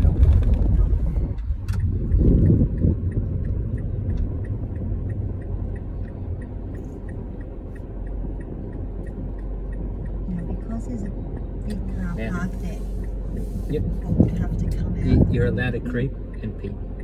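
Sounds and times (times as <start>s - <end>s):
low car cabin rumble: 0.0s - 17.0s
turn signal clicking: 0.0s - 17.0s.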